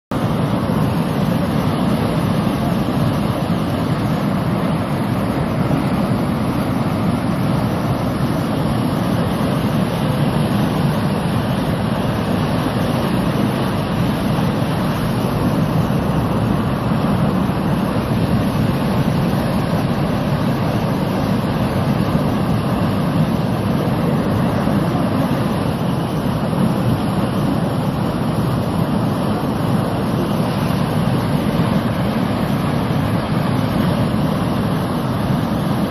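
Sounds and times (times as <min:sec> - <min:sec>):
flood water rushing: 0:00.1 - 0:35.9.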